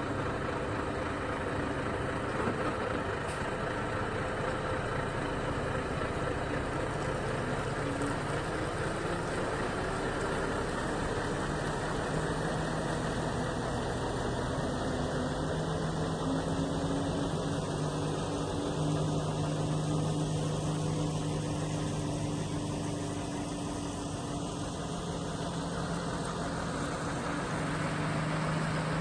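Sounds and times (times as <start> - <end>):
engine running at low speed: 0.0 - 29.0.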